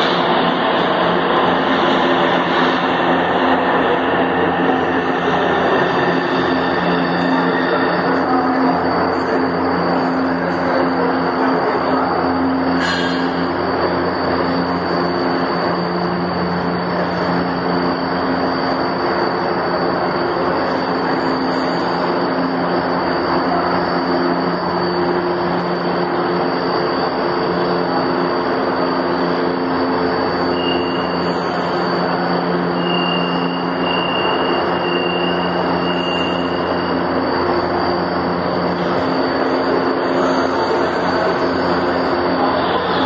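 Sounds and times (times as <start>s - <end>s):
train mechanical drone: 0.0s - 43.0s.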